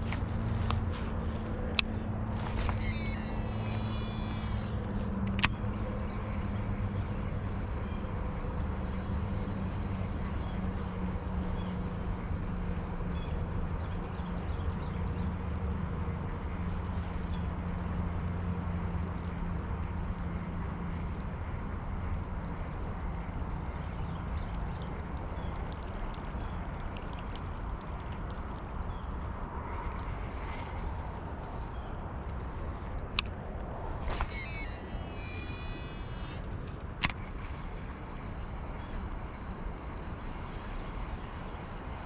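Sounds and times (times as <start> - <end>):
low engine hum: 0.0 - 42.0
outdoor background noise: 0.0 - 42.0.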